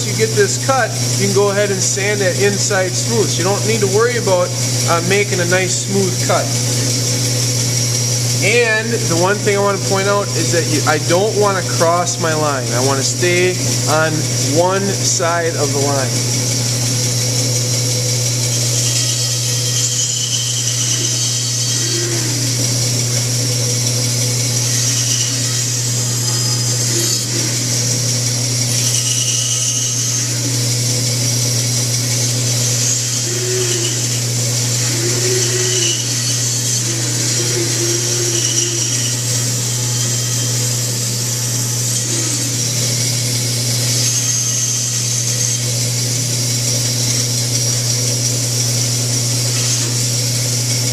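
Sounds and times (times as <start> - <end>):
bandsaw cutting wood: 0.0 - 50.9.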